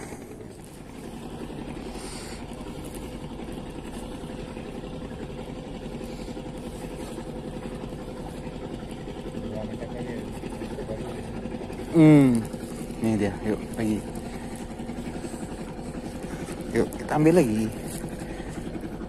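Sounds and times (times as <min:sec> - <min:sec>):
engine running with fluttering hum: 0:00.0 - 0:19.0.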